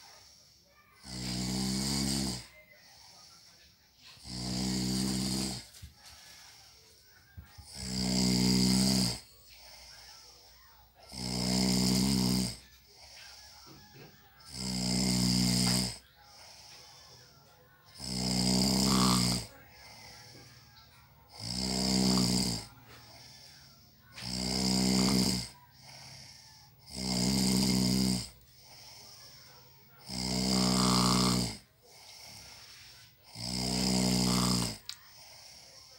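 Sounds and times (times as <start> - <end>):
person snoring: 0.0 - 7.0, 7.6 - 35.9
quiet breathing: 0.0 - 35.9.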